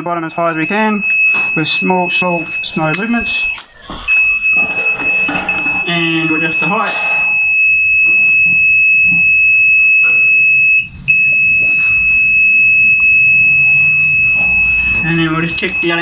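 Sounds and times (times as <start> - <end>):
high-pitched continuous buzzer tone: 0.0 - 16.0.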